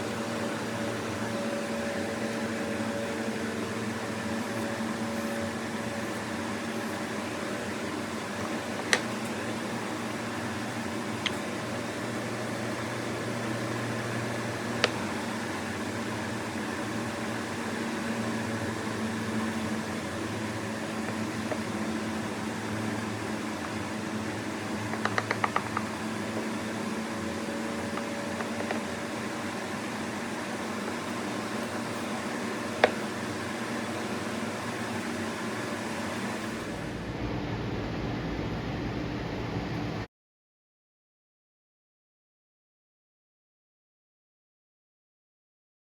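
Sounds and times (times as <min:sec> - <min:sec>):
mechanical hum: 0:00.0 - 0:40.1.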